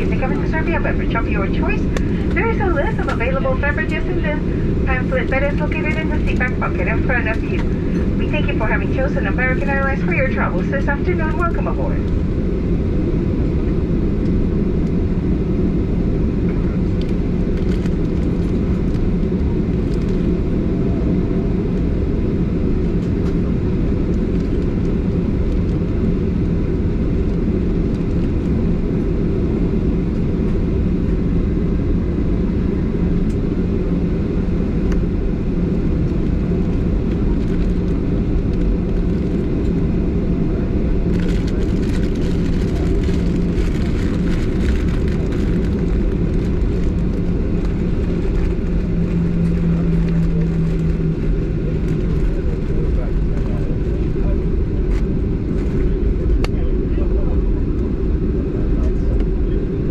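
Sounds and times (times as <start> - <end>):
jet engines idling in cabin: 0.0 - 59.9.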